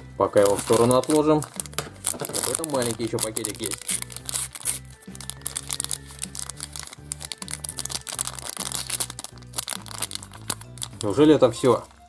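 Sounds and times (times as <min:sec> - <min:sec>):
background music: 0:00.0 - 0:12.0
toy packet crinkling: 0:00.3 - 0:12.0.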